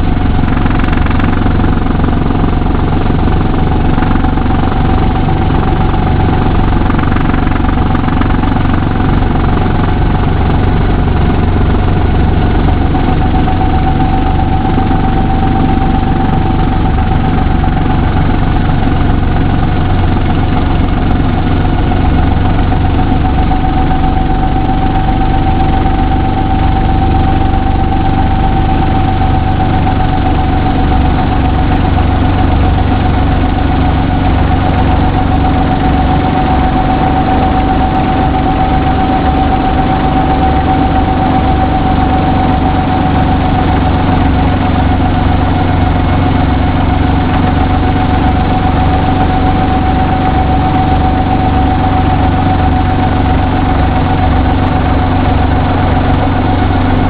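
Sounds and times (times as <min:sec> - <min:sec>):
helicopter engine and rotor hum: 0:00.0 - 0:57.0.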